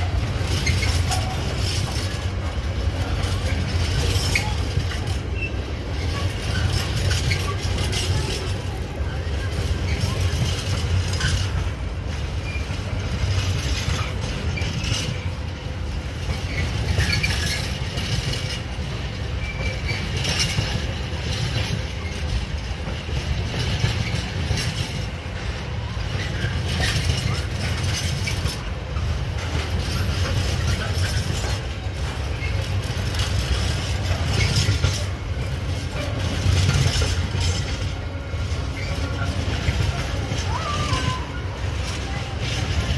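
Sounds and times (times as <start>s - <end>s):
train wagons rumbling past: 0.0s - 42.9s
wheels clanking over rail joints: 0.0s - 42.9s.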